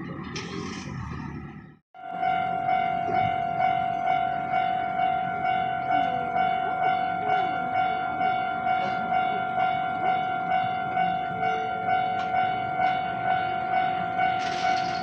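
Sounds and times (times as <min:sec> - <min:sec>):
level crossing warning bell ringing: 0:02.0 - 0:15.0.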